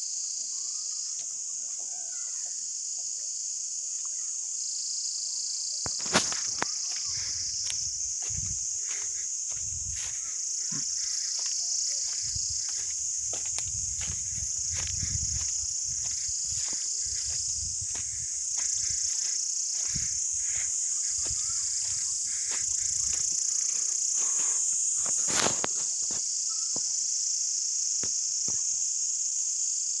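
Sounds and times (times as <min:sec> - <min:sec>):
insect chorus drone: 0:00.0 - 0:30.0.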